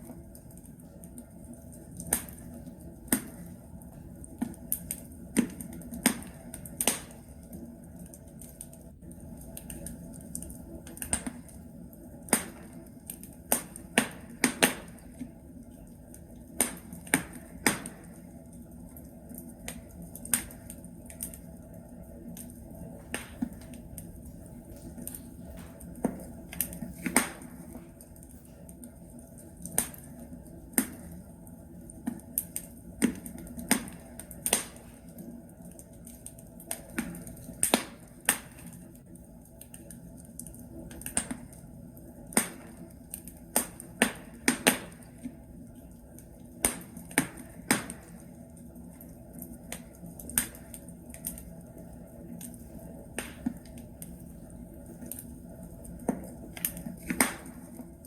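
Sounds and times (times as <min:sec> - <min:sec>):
fire crackling and popping: 0:00.0 - 0:58.0
low hiss of fire: 0:00.1 - 0:58.0.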